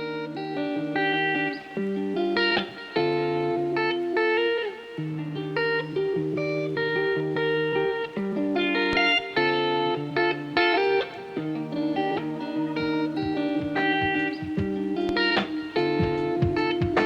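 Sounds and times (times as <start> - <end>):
plucked guitar instrumental: 0.0 - 17.0.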